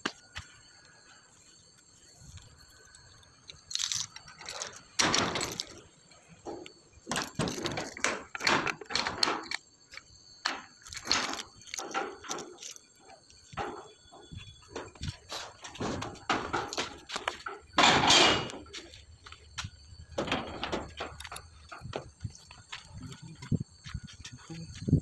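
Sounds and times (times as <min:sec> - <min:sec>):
irregular clatters and knocks: 0:03.6 - 0:25.0.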